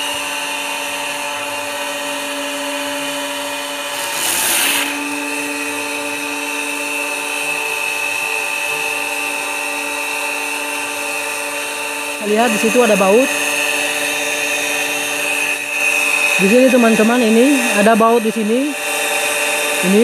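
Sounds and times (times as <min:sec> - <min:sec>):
electric pump motor whine: 0:00.0 - 0:20.0.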